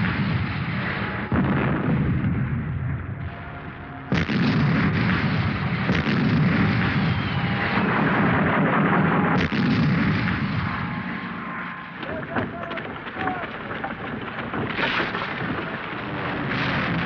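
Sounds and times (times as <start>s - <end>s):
continuous gunfire: 0.0s - 17.0s
loud shell blasts: 0.0s - 17.0s.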